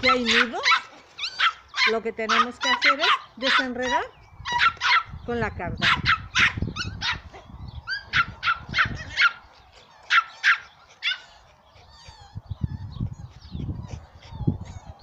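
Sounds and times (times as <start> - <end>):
dog yapping: 0.0 - 5.1, 5.8 - 15.0.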